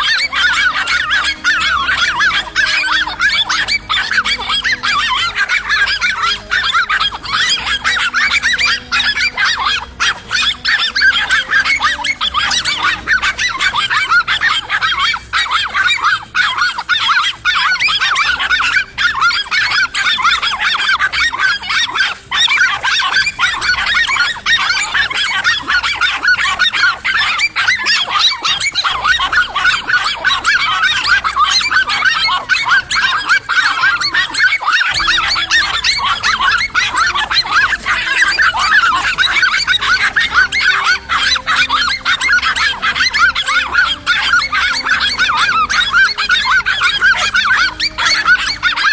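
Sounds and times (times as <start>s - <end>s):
dogs barking and yelping: 0.0s - 48.9s.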